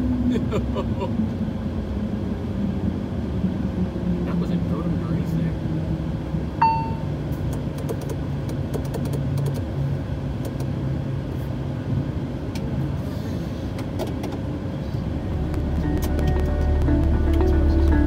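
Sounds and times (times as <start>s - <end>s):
jet engines idling hum: 0.0s - 18.0s.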